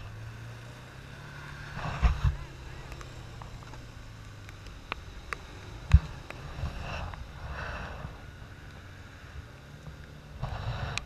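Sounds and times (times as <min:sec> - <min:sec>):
vehicle engine running low: 0:00.0 - 0:11.0.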